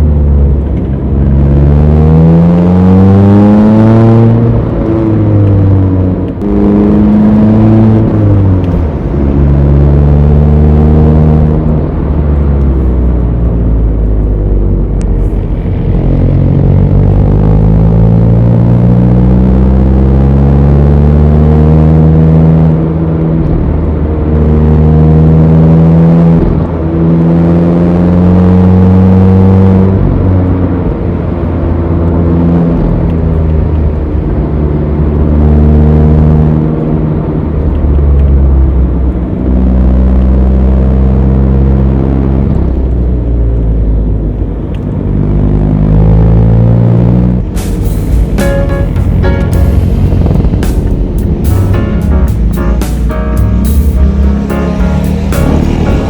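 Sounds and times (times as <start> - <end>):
car engine pulling uphill: 0.0 - 56.0.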